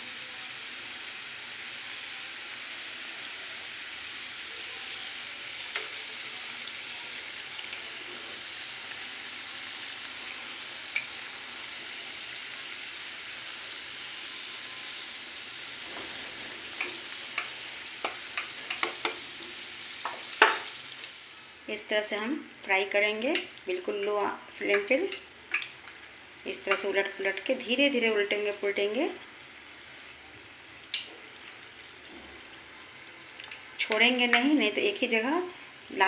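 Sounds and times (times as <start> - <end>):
oil sizzling: 0.0 - 36.0.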